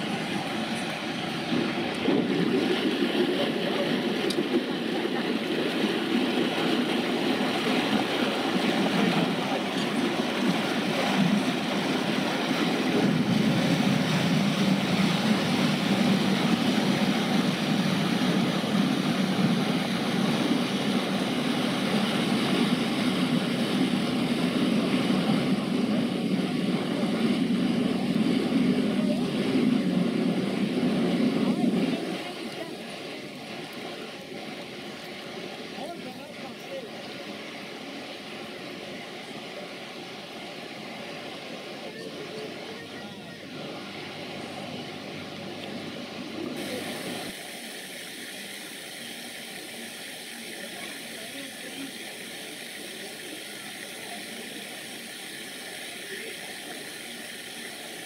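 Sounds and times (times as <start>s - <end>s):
boat engine rumbling: 0.0s - 58.0s
propeller wash churning: 0.0s - 58.0s.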